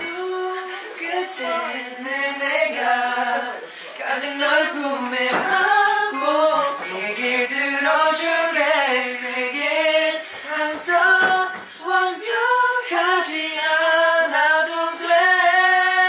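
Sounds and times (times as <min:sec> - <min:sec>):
young men singing together: 0:00.0 - 0:16.0.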